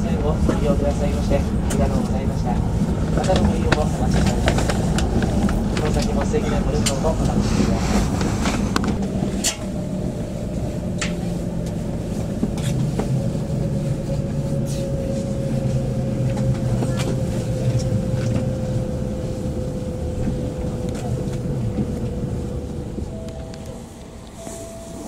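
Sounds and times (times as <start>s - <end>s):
low rumble of train running gear: 0.0s - 25.0s.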